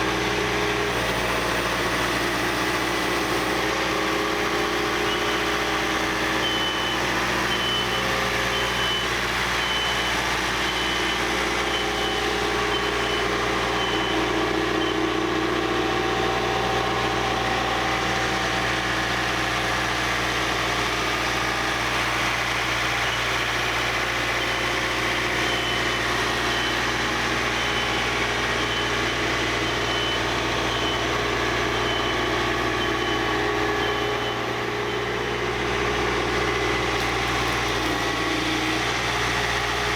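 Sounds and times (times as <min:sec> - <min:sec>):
bandsaw mill running: 0:00.0 - 0:39.9.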